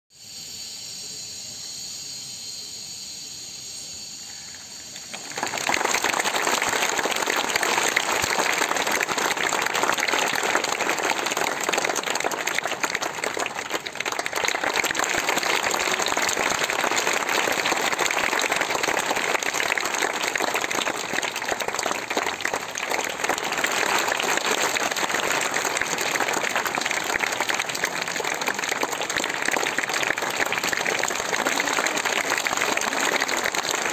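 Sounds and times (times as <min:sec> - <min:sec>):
children clapping: 0:05.0 - 0:33.9.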